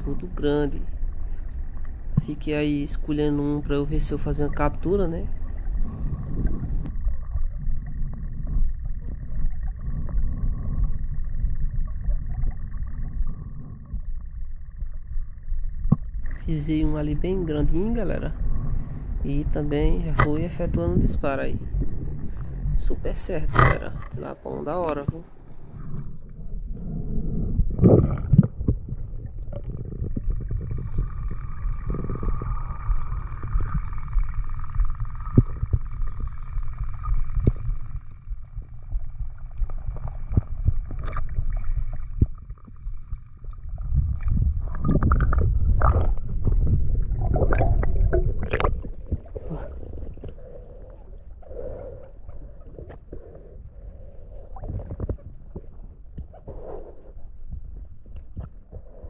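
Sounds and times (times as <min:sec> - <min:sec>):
faint steady whine: 0:00.0 - 0:59.0
underwater clicks and gurgles: 0:00.0 - 0:59.0
underwater rumble of moving water: 0:00.0 - 0:59.0.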